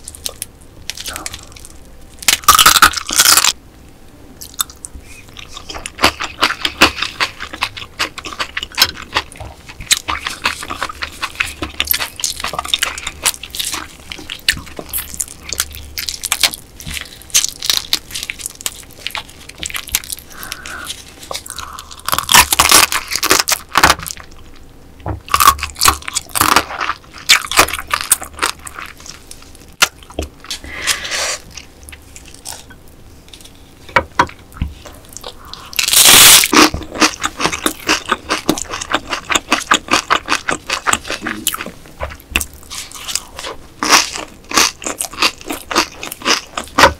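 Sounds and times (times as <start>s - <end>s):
wet crunching and chewing: 4.4s - 33.6s, 34.3s - 46.9s.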